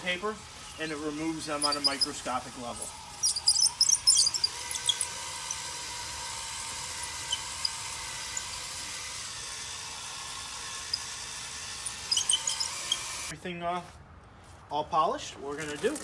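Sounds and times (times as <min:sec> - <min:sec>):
cordless drill motor whine: 0:00.0 - 0:13.3.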